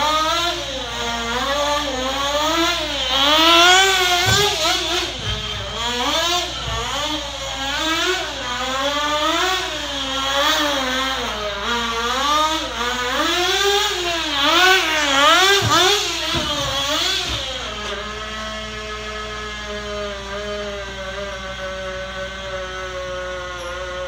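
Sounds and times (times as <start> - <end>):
small nitro engine revving: 0.0 - 24.0.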